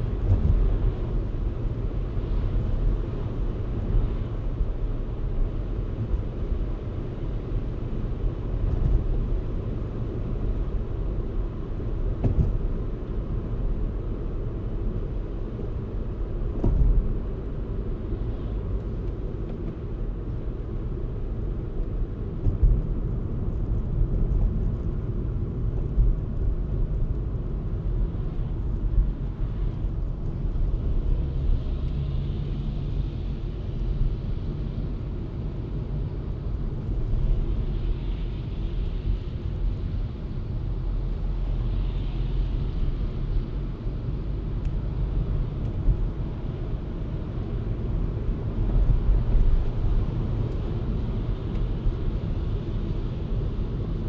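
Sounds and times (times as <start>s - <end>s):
car driving with tyre noise: 0.0s - 54.0s.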